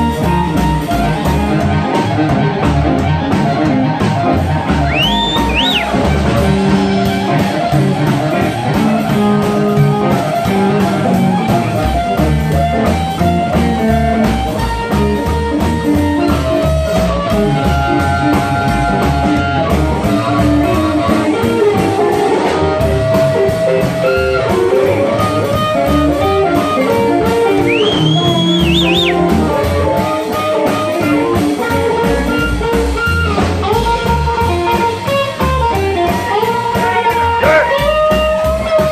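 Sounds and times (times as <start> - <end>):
amplified harmonica: 0.0 - 38.9
drums: 0.0 - 38.9
electric guitar: 0.0 - 38.9
upright bass: 0.0 - 38.9.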